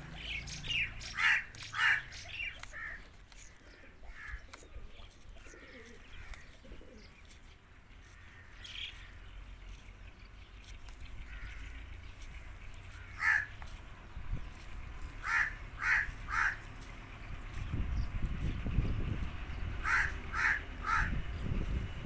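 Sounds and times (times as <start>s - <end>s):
harsh bird calls: 0.0s - 22.0s.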